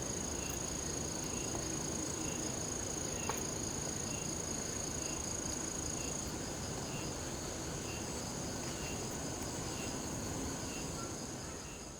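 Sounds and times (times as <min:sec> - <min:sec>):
cicadas droning: 0:00.0 - 0:11.9.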